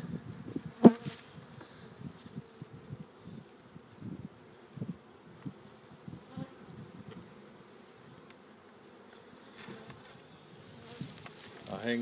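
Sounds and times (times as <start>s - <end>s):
bee buzzing close by: 0.0s - 12.0s
honey bees humming: 0.0s - 12.0s.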